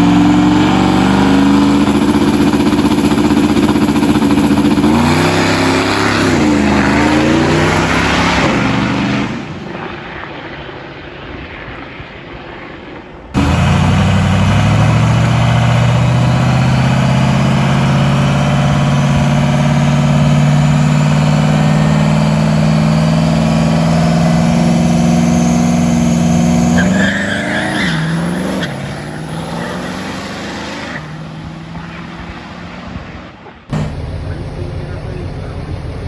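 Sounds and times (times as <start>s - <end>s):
diesel truck engine under load: 0.0s - 9.8s, 13.4s - 36.0s.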